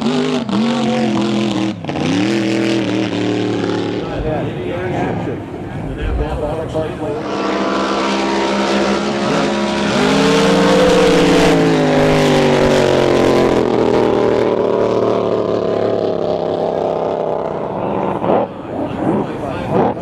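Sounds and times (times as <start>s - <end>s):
boat engine running hard: 0.0s - 20.0s.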